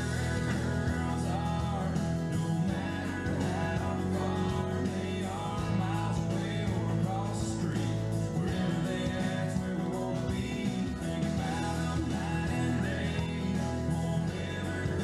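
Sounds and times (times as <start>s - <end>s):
guitar: 0.0s - 15.0s
person singing: 0.0s - 15.0s
steady bass beat: 0.0s - 15.0s.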